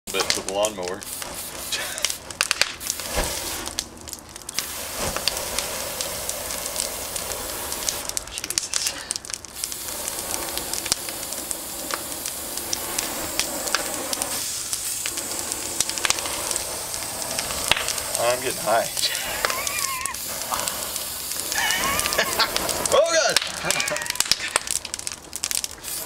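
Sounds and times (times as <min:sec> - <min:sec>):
fire hissing and crackling: 0:00.1 - 0:26.0.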